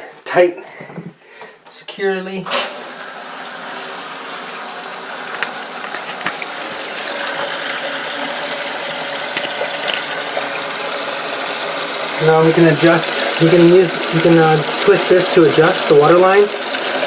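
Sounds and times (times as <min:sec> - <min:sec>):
water rushing into toilet tank: 0:02.5 - 0:17.0.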